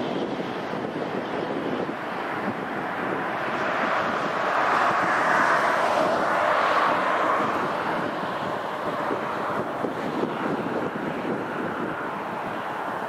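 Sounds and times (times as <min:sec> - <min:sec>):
jet engines at taxi power: 0:00.0 - 0:13.0
wind buffeting microphone: 0:00.0 - 0:13.0.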